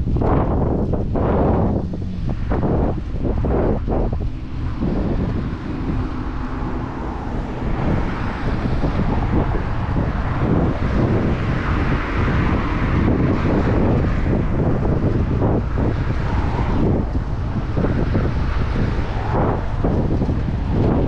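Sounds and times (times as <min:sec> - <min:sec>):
street traffic: 0:00.0 - 0:21.0
wind rushing over microphone: 0:00.0 - 0:21.0.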